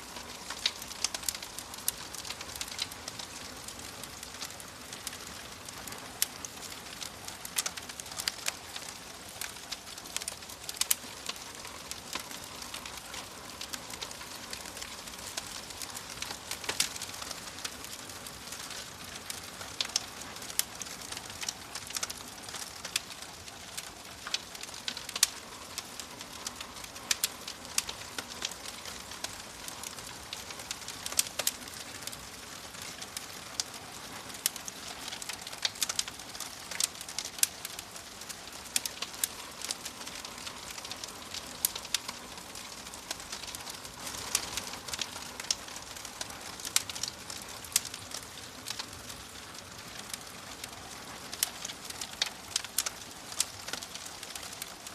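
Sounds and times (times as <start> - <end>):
fire crackling: 0.0 - 54.9.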